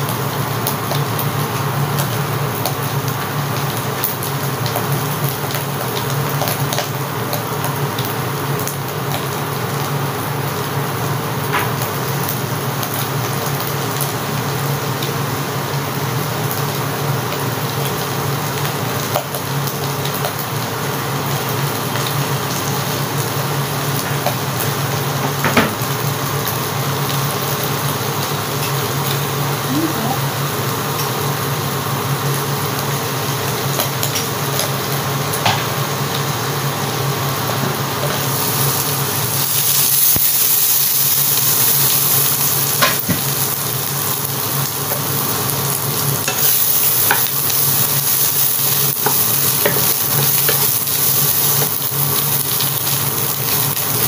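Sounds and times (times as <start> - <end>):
meat sizzling in frying pan: 0.0 - 54.0.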